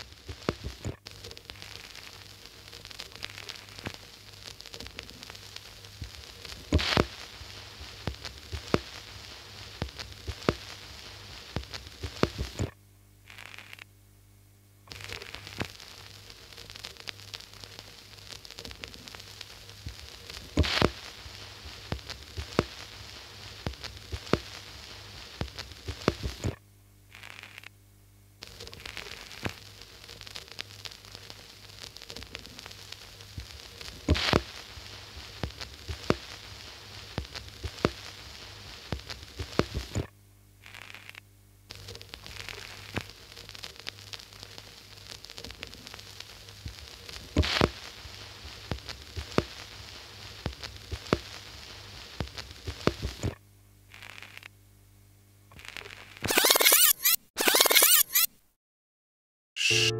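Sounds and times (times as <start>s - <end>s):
crackling static with pops: 0.0s - 58.6s.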